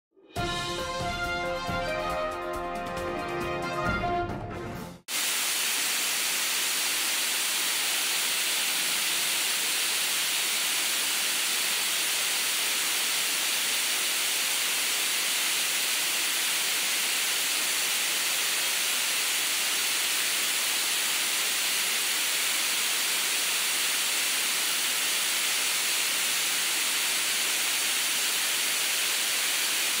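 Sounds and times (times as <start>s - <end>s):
swimming pool hall hiss: 5.1s - 30.0s.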